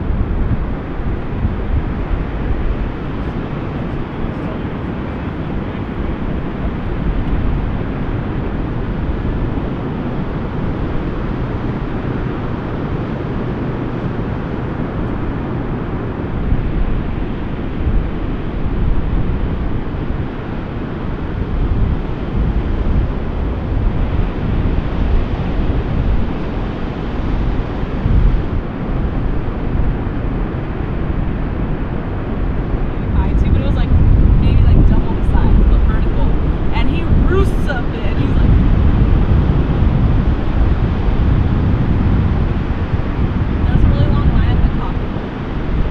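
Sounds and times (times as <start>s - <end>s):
ocean surf breaking: 0.0s - 45.9s
wind buffeting microphone: 0.0s - 45.9s.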